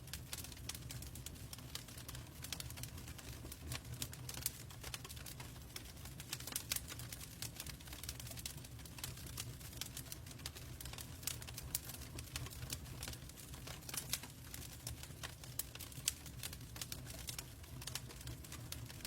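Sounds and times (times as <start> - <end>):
log fire crackling: 0.0 - 19.0
low rumble of burning: 0.0 - 19.0.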